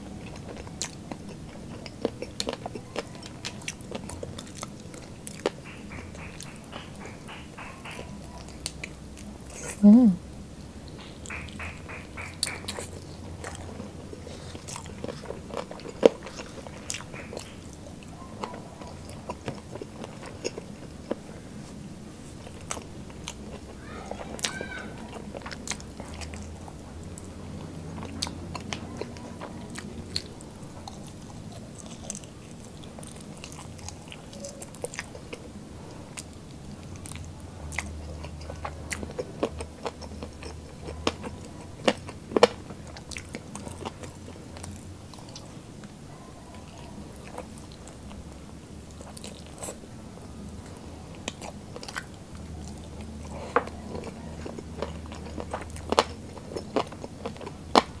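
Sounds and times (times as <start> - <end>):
chewing crispy fried food: 0.0 - 58.0
low steady hum: 0.0 - 58.0.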